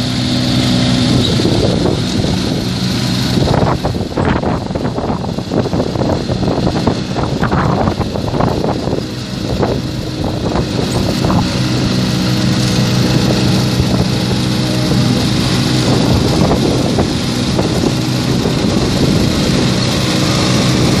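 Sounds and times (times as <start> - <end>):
lawn tractor engine running: 0.0 - 21.0
wind buffeting microphone: 0.0 - 21.0.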